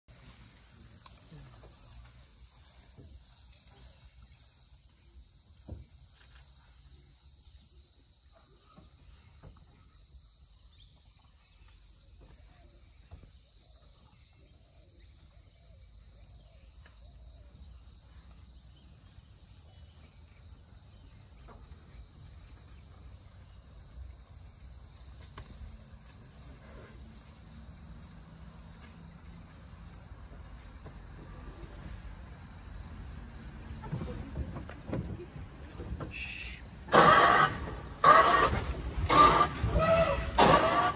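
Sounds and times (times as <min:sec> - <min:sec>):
insects droning high-pitched: 0:00.1 - 0:40.9.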